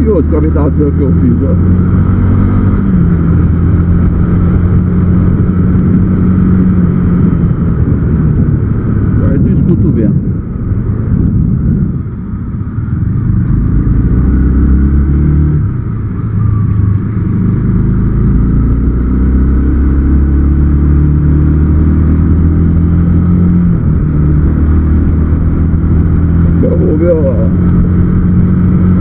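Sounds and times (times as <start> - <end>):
motorcycle engine running: 0.0 - 29.0
wind and road rumble: 0.0 - 29.0.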